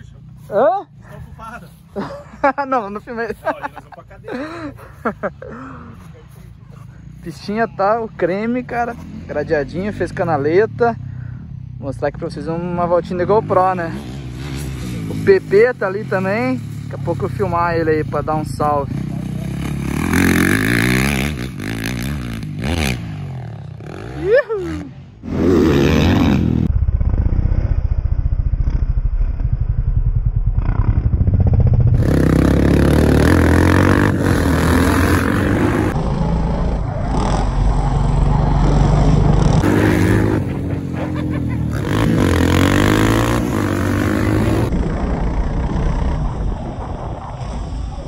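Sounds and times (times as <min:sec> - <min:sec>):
dirt bike engines revving: 0:00.0 - 0:29.0, 0:30.6 - 0:48.0.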